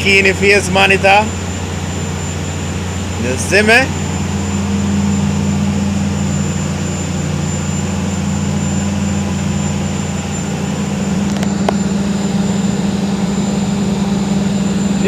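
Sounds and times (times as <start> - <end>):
low machine hum: 0.0 - 15.0
thin high whine: 0.0 - 15.0.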